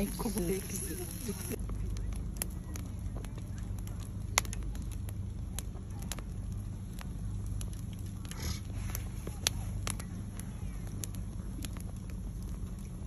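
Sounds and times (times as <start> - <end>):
logs crackling and popping: 0.0 - 13.0
steady low rumble: 0.0 - 13.0.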